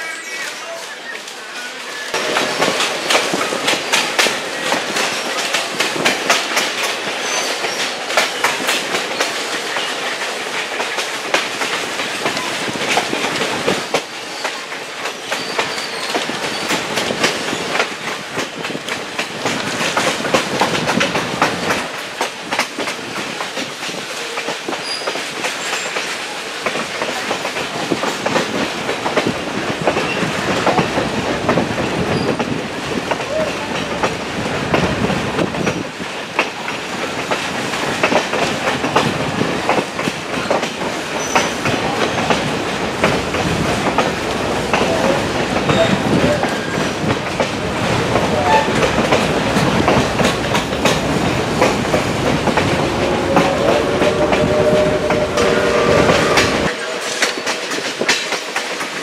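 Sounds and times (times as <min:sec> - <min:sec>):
train wheels clattering over rail joints: 0:02.2 - 0:59.0.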